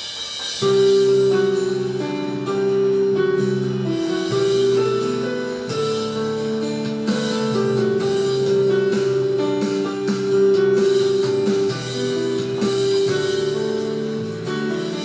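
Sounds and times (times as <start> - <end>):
plucked notes: 0.6 - 15.0
sustained instrumental chords: 0.6 - 15.0.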